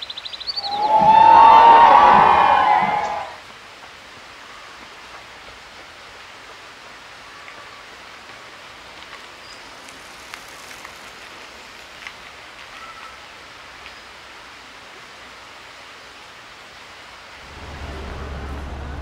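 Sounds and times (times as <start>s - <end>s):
steady hiss like running water: 0.0s - 18.5s.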